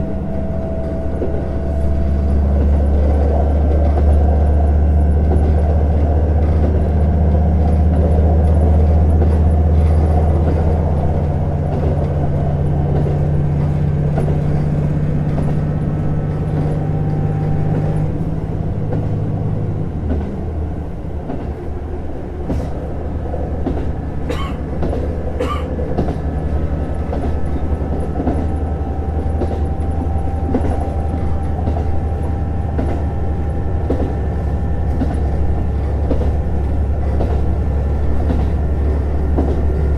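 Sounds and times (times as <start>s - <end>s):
diesel railcar engine droning: 0.0s - 39.9s
wheel and rail noise: 0.0s - 39.9s.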